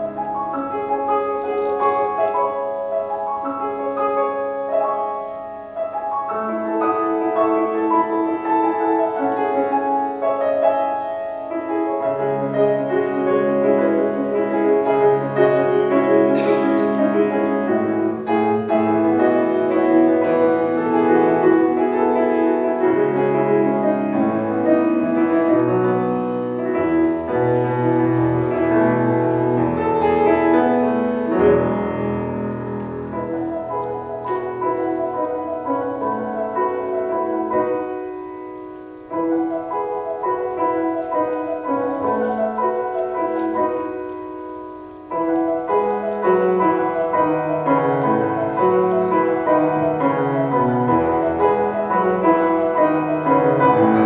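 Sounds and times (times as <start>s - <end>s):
solo piano chords: 0.0s - 54.0s.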